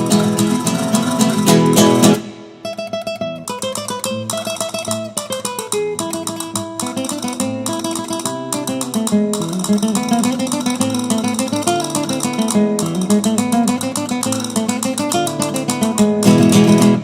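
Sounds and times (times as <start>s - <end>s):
flamenco guitar: 0.0s - 17.0s.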